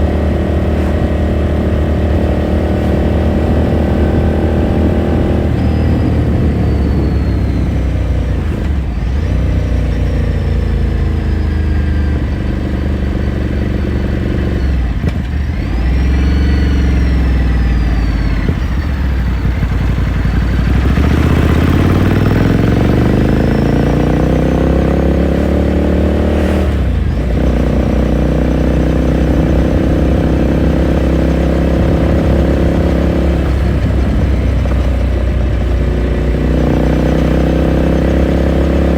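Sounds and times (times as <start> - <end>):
gear changes: 0.0 - 38.9
motorcycle engine revving: 0.0 - 38.9.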